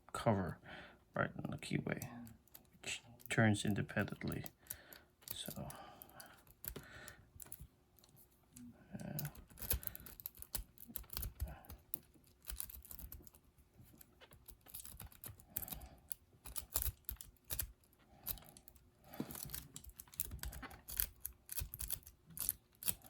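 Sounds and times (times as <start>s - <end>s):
lock pick clicking and scraping: 2.2s - 8.2s, 9.0s - 23.0s.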